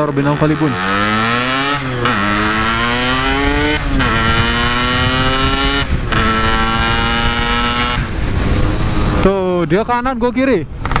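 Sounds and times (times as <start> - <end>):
motorcycle engine accelerating: 0.0 - 9.5.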